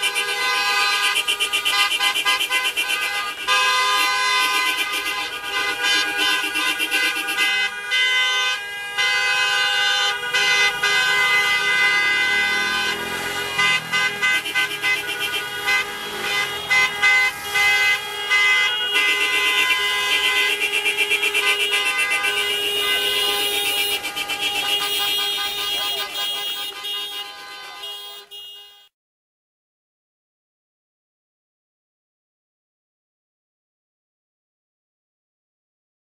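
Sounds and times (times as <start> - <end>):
car horns honking: 0.0 - 28.9.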